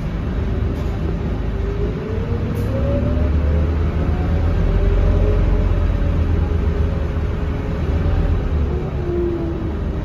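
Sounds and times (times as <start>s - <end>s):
bus driveline whine: 0.0s - 10.0s
diesel engine low drone: 0.0s - 10.0s.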